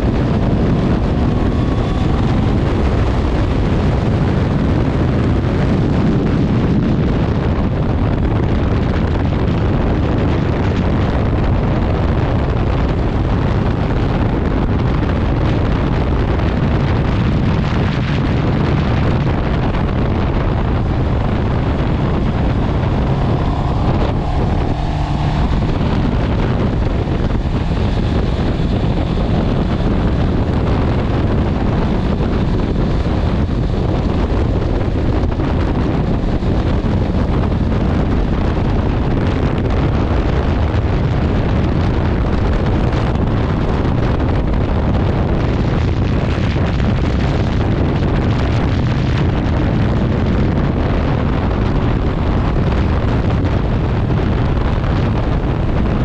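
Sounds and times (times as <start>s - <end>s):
heavy wind noise on microphone: 0.0s - 56.0s
motorcycle engine at road speed: 0.0s - 56.0s.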